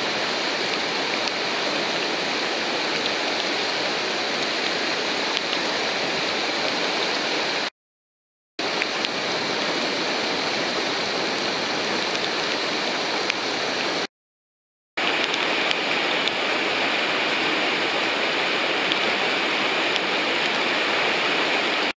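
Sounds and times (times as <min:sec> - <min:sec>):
whitewater rushing: 0:00.0 - 0:07.7, 0:08.6 - 0:14.1, 0:15.0 - 0:22.0.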